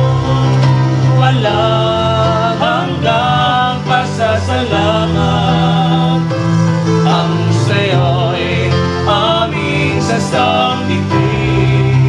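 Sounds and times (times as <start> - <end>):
person singing worship song: 0.0 - 12.0
sustained instrumental backing: 0.0 - 12.0.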